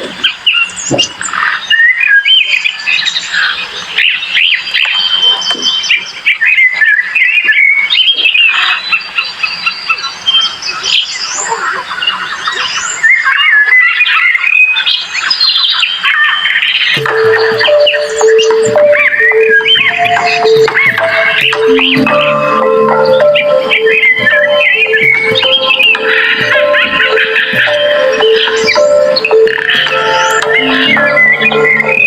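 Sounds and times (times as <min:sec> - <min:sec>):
many birds chirping: 0:00.0 - 0:32.0.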